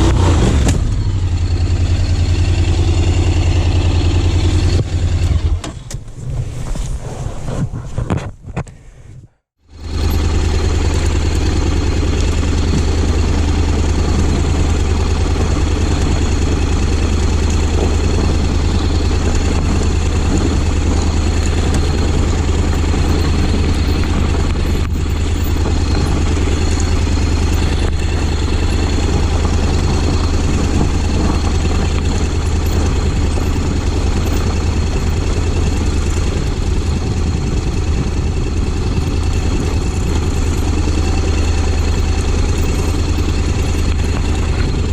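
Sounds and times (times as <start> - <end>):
motorcycle engine running steadily: 0.0 - 44.9.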